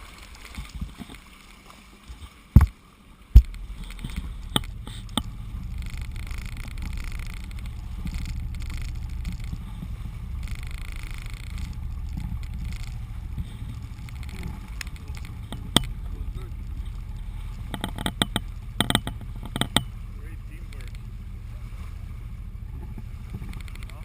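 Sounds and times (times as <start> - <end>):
low steady rumble: 0.0 - 24.0
water washing along boat hull: 0.0 - 24.0.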